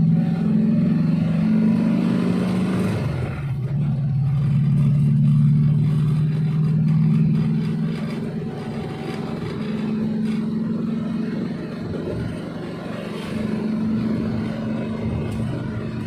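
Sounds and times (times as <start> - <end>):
van engine running: 0.0 - 16.0.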